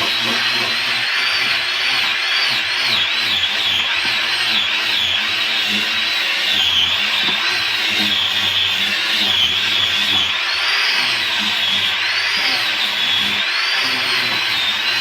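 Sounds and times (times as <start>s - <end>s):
electric drill whining: 0.0s - 15.0s.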